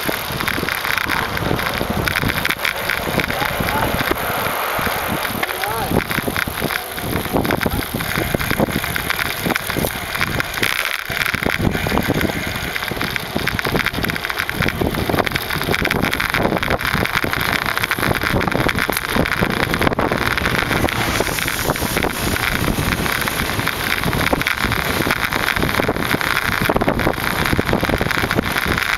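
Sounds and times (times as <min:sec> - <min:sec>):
road noise: 0:00.0 - 0:28.9
wind rushing over microphone: 0:00.0 - 0:28.9.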